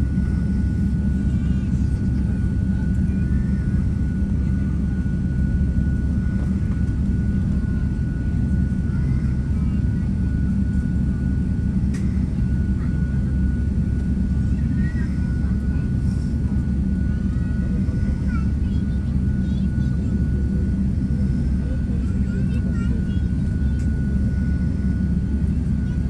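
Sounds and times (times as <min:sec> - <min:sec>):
jet engines rumbling: 0:00.0 - 0:26.0
faint voices: 0:00.1 - 0:26.0.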